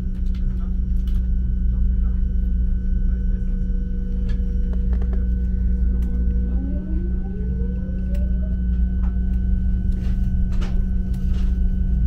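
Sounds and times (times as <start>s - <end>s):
electrical whine tones: 0.0s - 12.0s
train cabin rumble and hum: 0.0s - 12.0s.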